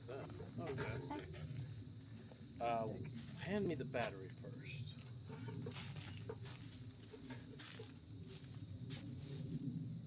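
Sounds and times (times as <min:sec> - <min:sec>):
crickets droning: 0:00.0 - 0:10.0.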